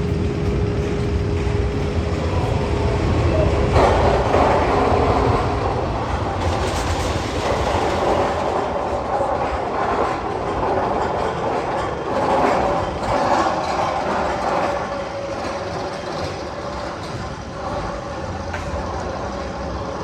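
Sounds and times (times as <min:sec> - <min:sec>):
roller coaster rumbling on track: 0:00.0 - 0:20.0.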